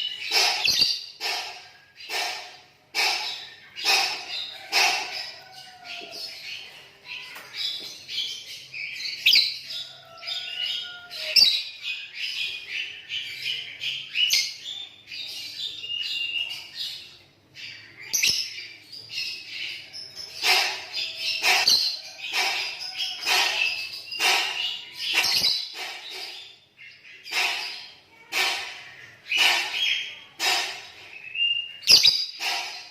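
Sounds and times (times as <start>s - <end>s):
birds chirping and squawking: 0.0s - 32.9s.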